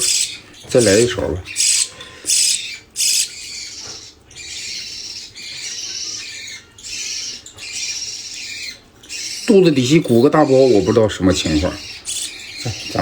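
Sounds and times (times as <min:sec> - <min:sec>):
budgerigar chick begging calls: 0:00.0 - 0:13.0.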